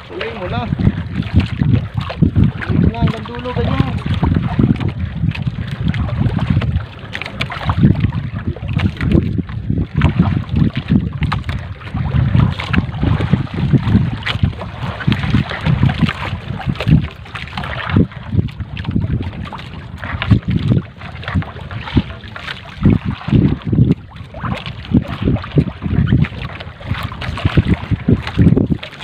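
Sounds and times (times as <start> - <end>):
water splashing on boat hull: 0.0 - 29.0
wind buffeting microphone: 0.0 - 29.0.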